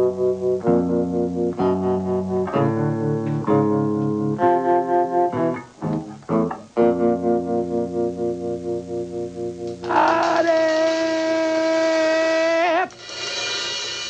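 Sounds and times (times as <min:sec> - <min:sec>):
guitar chords: 0:00.0 - 0:14.0.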